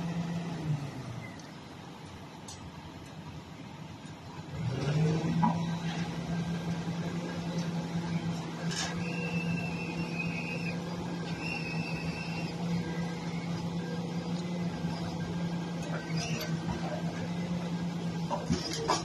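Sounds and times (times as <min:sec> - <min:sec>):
refuse truck machinery humming: 0:00.0 - 0:19.0.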